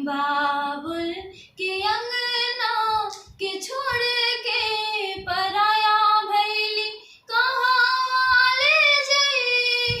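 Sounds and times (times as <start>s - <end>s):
girl singing: 0.0s - 10.0s.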